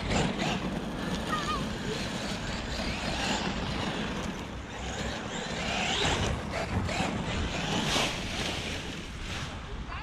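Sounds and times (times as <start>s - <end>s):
rc truck motor whining: 0.0s - 9.1s
tires on gravel: 0.0s - 9.7s.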